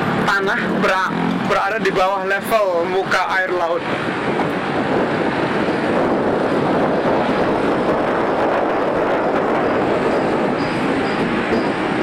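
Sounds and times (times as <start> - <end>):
wind rushing: 0.0 - 12.0.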